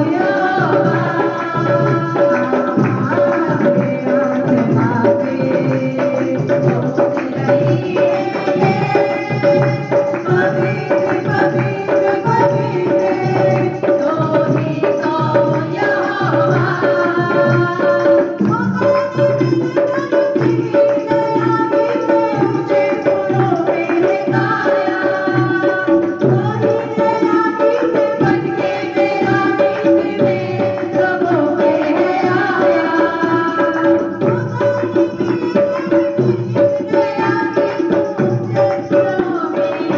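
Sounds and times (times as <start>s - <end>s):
hand drum rhythm: 0.0s - 39.9s.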